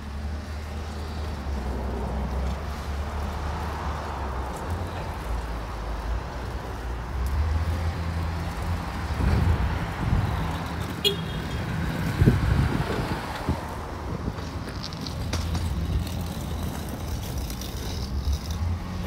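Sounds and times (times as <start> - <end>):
car traffic rumble: 0.0 - 19.0.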